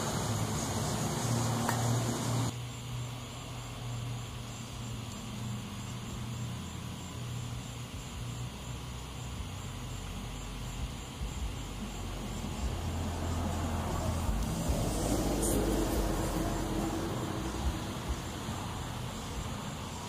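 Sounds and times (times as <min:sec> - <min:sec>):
bright hiss: 0:00.0 - 0:20.0
propane torch flame rumbling: 0:00.0 - 0:20.0.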